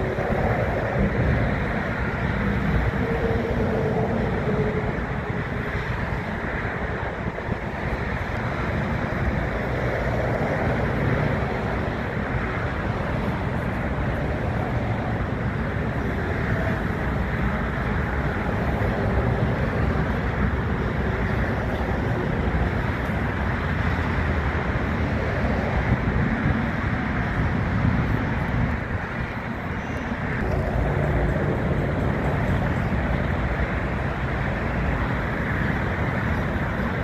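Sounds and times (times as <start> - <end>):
distant aircraft: 0.0 - 37.0
ground traffic: 0.0 - 37.0.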